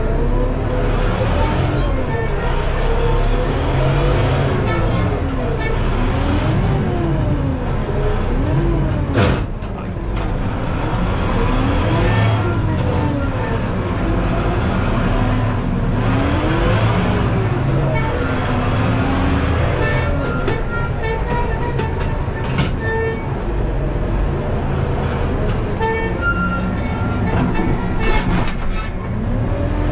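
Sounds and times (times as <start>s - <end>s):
tractor engine under load: 0.0s - 29.9s.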